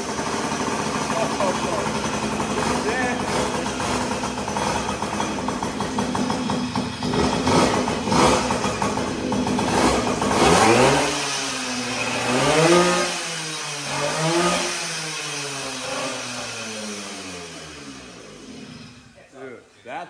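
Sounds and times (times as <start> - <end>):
moped engine revving: 0.0 - 19.2.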